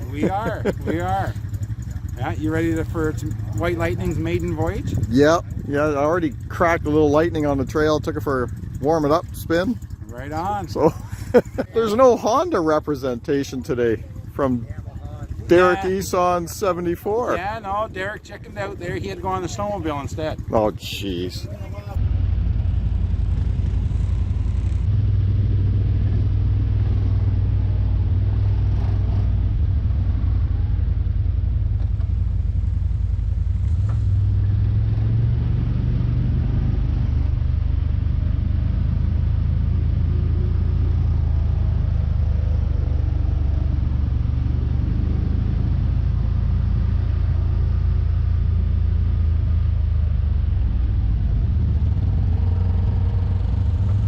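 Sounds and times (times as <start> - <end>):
vehicle engine low rumble: 0.0 - 54.0.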